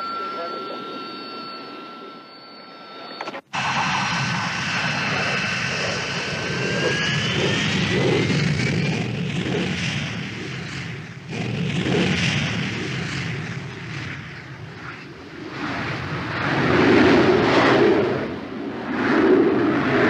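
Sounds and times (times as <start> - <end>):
jet engine rumble and hiss: 0.0 - 20.0.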